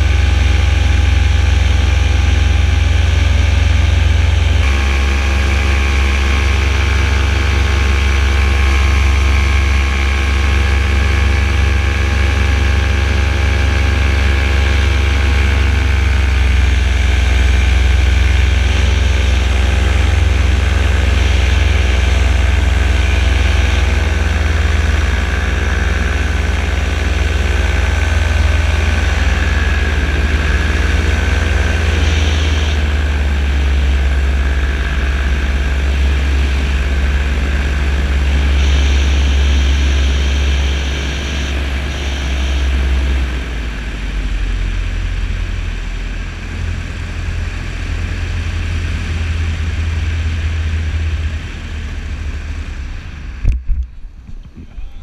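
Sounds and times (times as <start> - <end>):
paramotor engine and propeller: 0.0 - 55.0.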